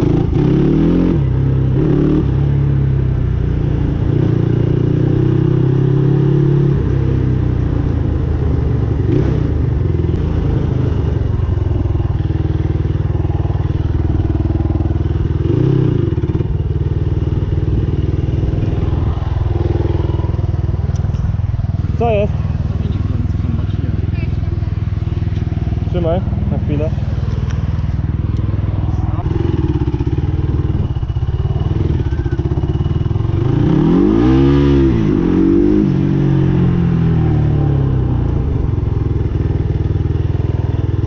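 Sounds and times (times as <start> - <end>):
quad engine running: 0.0 - 41.0.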